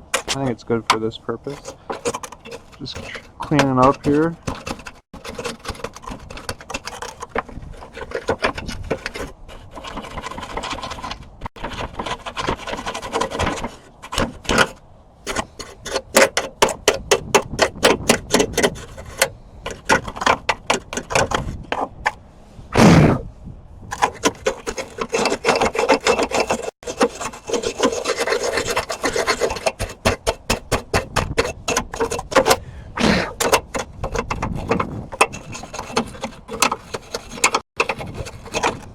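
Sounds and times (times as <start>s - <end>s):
wire brush scrubbing rusty metal: 0.0s - 22.6s, 23.9s - 38.9s.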